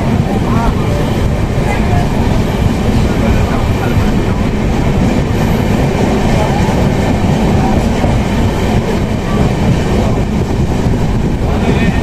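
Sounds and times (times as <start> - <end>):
train wheels on track: 0.0 - 12.0.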